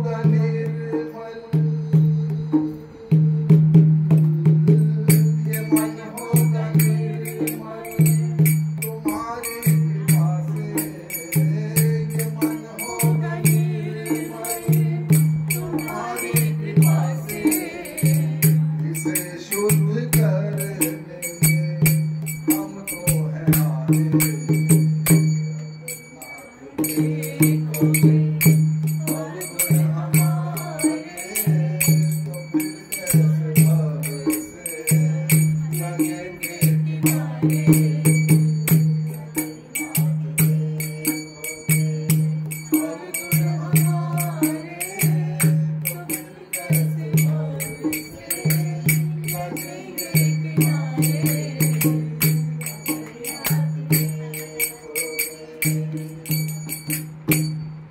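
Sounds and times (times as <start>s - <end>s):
devotional singing: 0.0s - 24.9s, 26.1s - 57.4s
jingling tambourine-like percussion: 0.0s - 57.9s.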